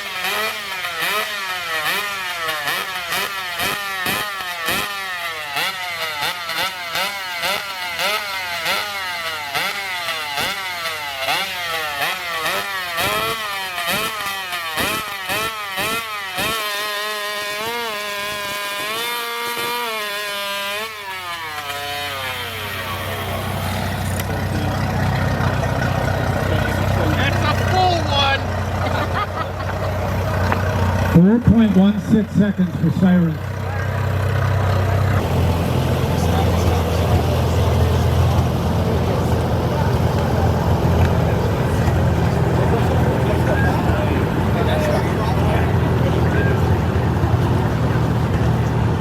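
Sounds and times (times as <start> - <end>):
chainsaws revving: 0.0 - 49.0
loud rough noise: 0.0 - 49.0.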